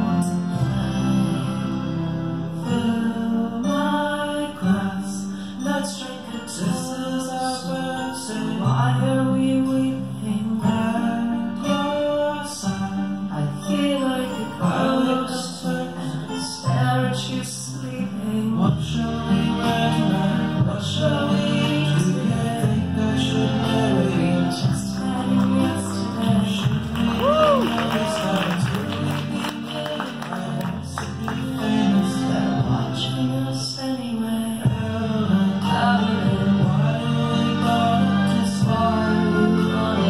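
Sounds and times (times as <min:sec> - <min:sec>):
music with singing: 0:00.0 - 0:40.0.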